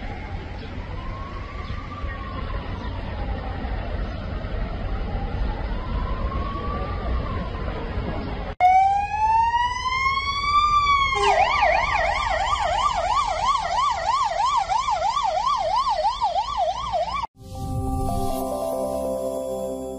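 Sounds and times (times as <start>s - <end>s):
fire engine siren: 0.0s - 17.4s.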